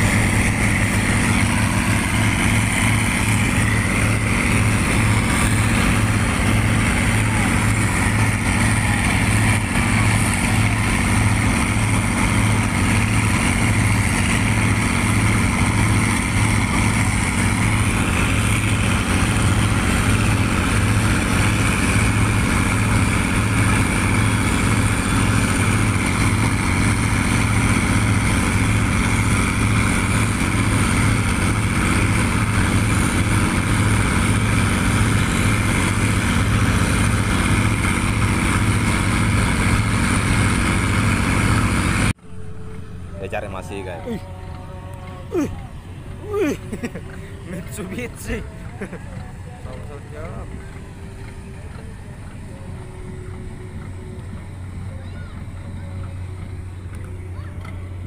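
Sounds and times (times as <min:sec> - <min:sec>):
boat engine droning: 0:00.0 - 0:58.0
water rushing along hull: 0:00.0 - 0:58.0.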